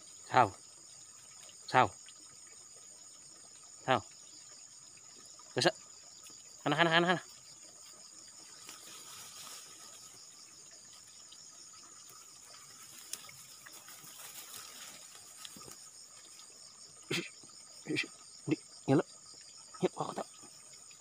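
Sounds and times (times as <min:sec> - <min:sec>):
insect chorus trilling: 0:00.0 - 0:21.0.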